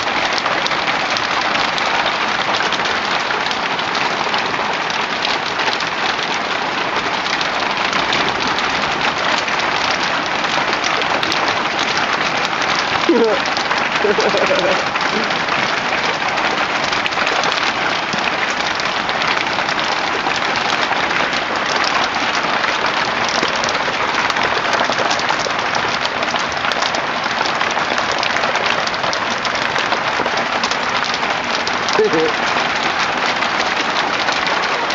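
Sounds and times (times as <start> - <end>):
hailstones pelting down: 0.0 - 34.9.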